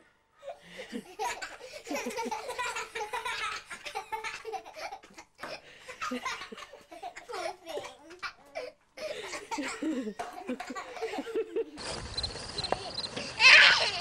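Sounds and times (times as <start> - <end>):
people laughing: 0.5 - 14.0.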